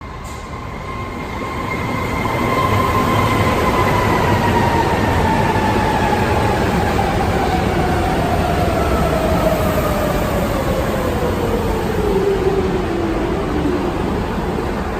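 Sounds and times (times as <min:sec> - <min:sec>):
subway train rumble: 0:00.0 - 0:14.9.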